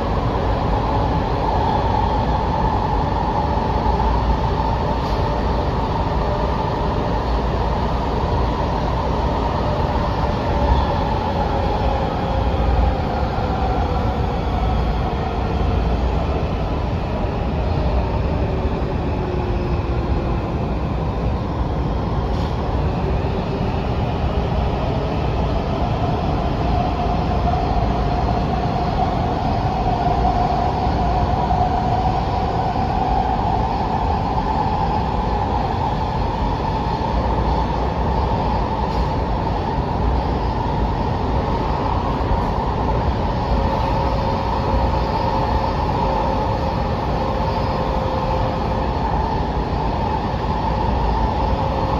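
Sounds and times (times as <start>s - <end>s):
train interior rumble with hiss: 0.0s - 51.9s.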